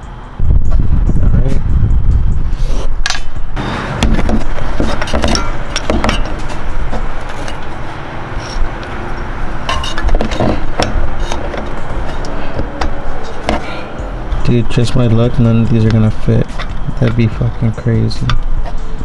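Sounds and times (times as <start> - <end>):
steady background rush: 0.0 - 19.0
metal tools clinking: 3.1 - 19.0.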